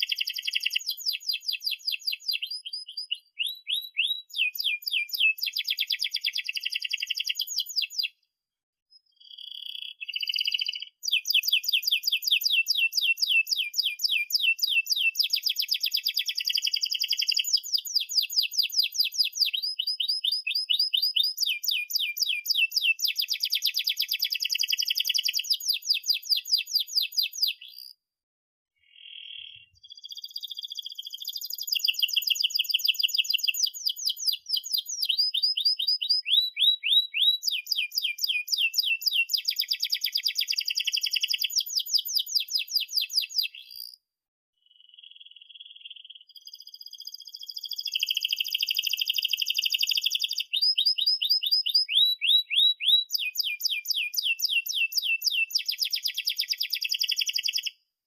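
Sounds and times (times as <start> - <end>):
canary singing rapid trills: 0.0 - 8.2, 8.9 - 28.0, 28.8 - 44.0, 44.8 - 57.7.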